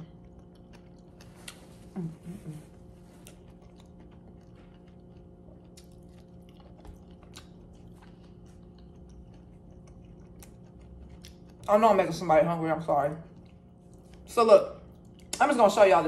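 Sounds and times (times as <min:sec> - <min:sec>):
person chewing food: 0:00.0 - 0:12.1, 0:13.2 - 0:15.4
faint steady hum: 0:00.0 - 0:16.0.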